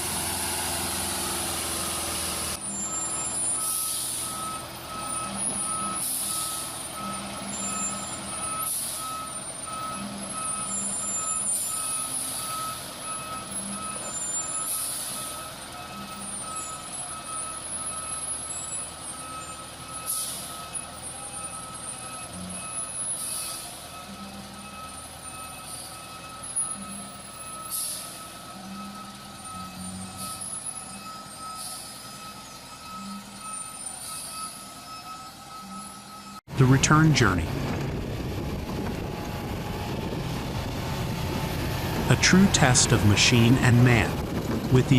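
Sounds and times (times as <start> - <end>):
truck engine running: 0.0 - 44.9
truck reversing alarm beeping: 0.0 - 44.9.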